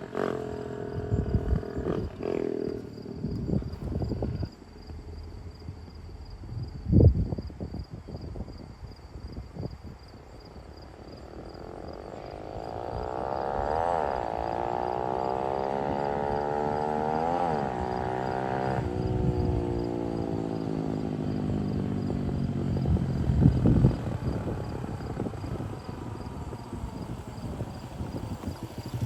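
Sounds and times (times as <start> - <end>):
dirt bike accelerating: 0.0 - 7.0, 10.9 - 29.0.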